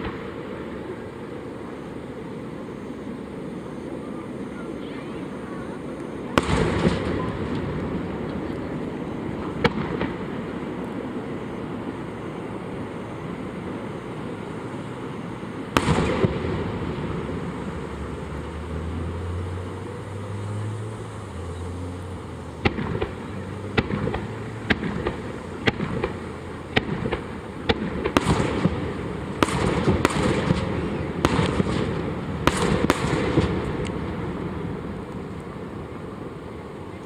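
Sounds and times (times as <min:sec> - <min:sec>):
fireworks bangs: 0:00.0 - 0:37.0
fireworks crackling volleys: 0:00.0 - 0:37.0
fireworks rumbling: 0:00.0 - 0:37.0.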